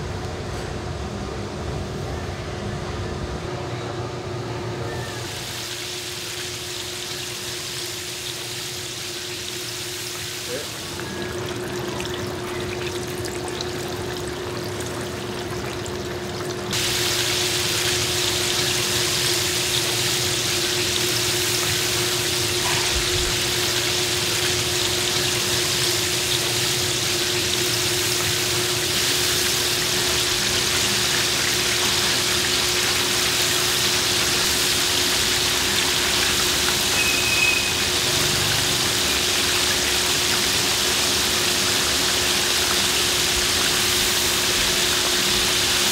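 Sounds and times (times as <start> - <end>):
ribs sizzling in deep fryer oil: 5.2 - 45.9.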